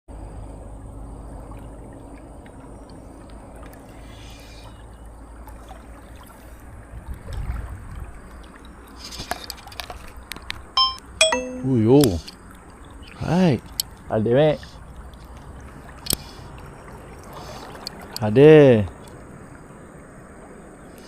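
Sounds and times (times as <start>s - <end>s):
river water running: 0.1s - 10.8s, 11.7s - 21.0s.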